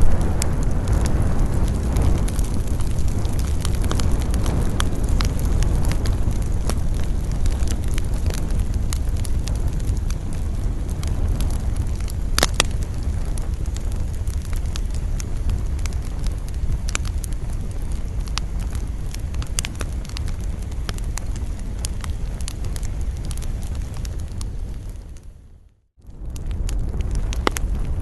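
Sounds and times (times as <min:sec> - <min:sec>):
campfire wood crackling and popping: 0:00.0 - 0:28.0
low rumble of wind: 0:00.0 - 0:28.0.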